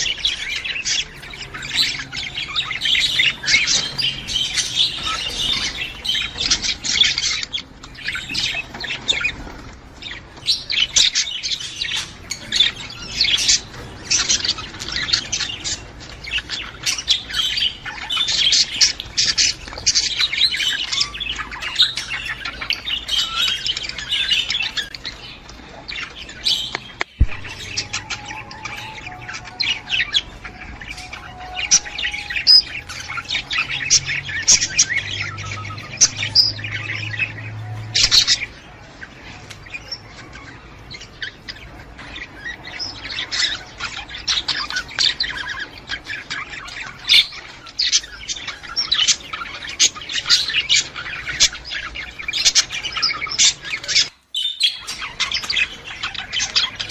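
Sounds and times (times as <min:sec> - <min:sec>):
budgerigars chattering: 0:00.0 - 0:56.9.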